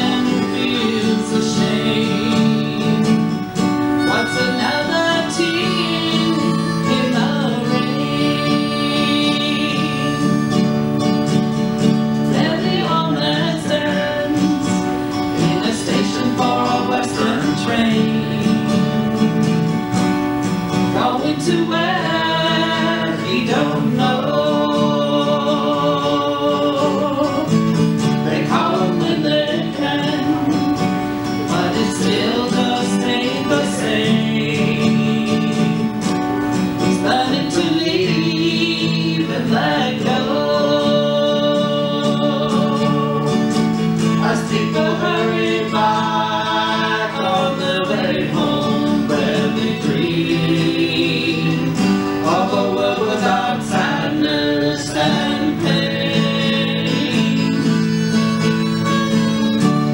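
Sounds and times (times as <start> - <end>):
person singing: 0.0 - 19.9, 20.8 - 59.9
guitar chords: 0.0 - 59.9.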